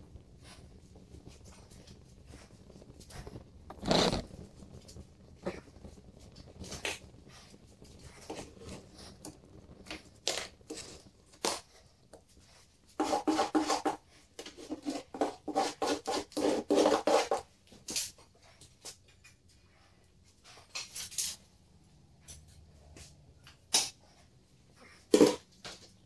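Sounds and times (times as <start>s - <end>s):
wood burning crackles and pops: 0.0s - 26.0s.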